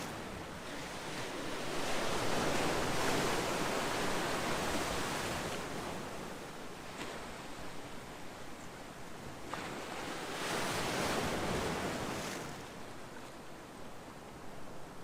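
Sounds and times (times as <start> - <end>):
background surf wash: 0.0 - 15.0.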